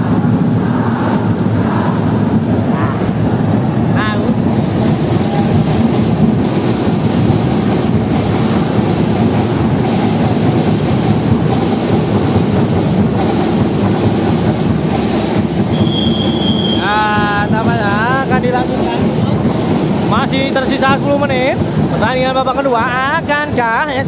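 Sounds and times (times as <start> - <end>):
crowd din indoors: 0.0 - 24.0.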